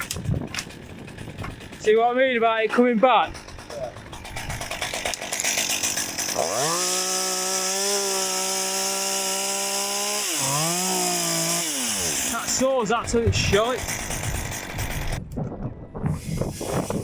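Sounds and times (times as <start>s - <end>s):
chainsaw revving: 0.0s - 15.2s.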